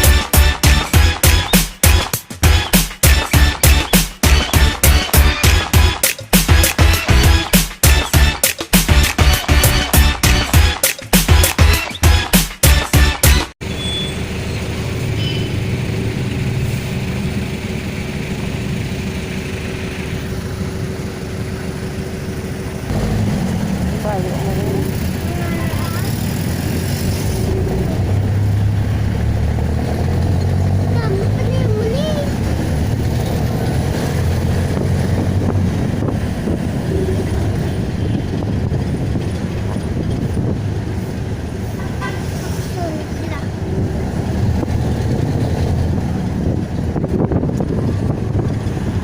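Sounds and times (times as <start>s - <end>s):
street traffic rumble: 0.0s - 49.0s.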